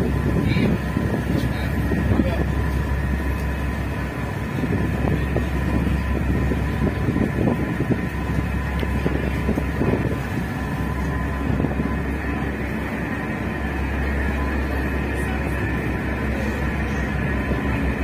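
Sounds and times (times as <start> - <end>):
faint steady whine: 0.0 - 18.0
ferry engines droning: 0.0 - 18.0
wind buffeting microphone: 0.0 - 18.0.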